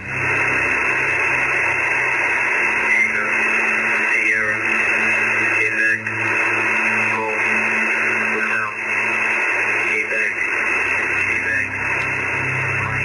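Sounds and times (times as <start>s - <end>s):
low hum: 0.0s - 13.0s
radio static hiss: 0.0s - 13.0s.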